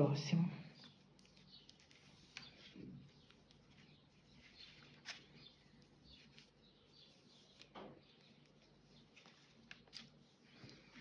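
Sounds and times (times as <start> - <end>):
cord rustling while knotted by hand: 0.8 - 11.0.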